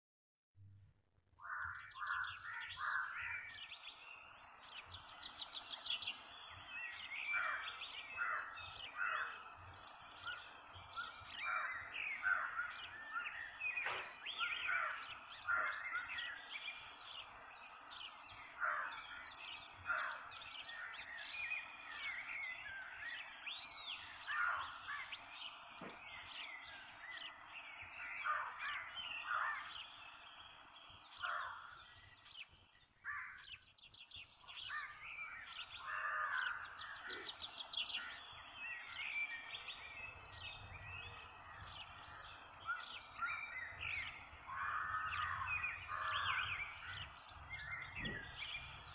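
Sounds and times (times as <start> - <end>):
birds chirping: 1.4 - 48.9.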